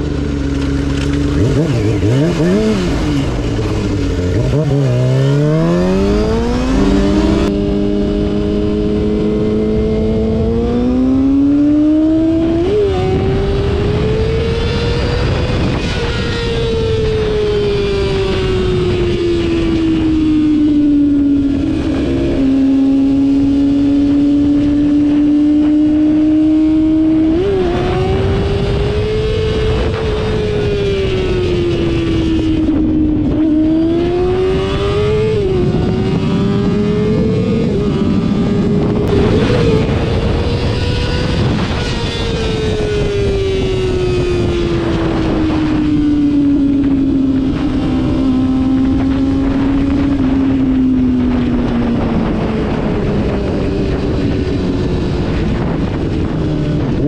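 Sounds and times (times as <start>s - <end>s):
motorcycle engine revving: 0.0s - 57.0s
wind on microphone: 0.0s - 57.0s.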